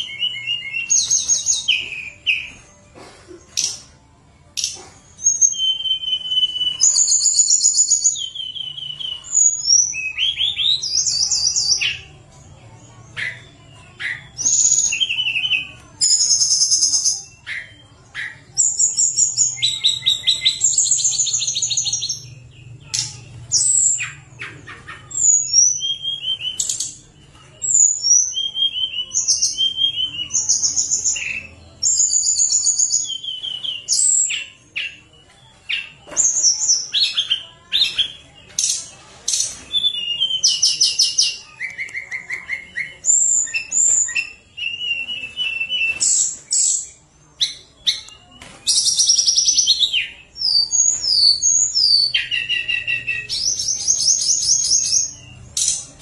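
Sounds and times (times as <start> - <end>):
bird singing whistled trills: 0.0 - 2.6, 4.6 - 12.0, 13.0 - 55.8.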